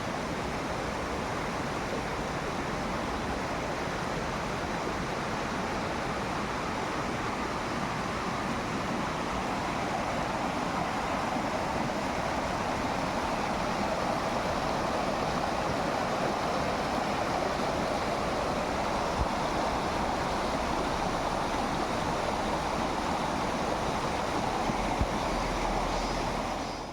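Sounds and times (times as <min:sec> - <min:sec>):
rushing falling water: 0:00.0 - 0:26.9.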